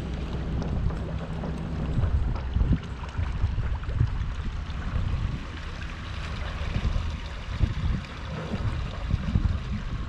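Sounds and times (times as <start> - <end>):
outboard motor: 0.0 - 10.0
water splashing and trickling: 0.0 - 10.0
wind rumble on microphone: 0.0 - 10.0.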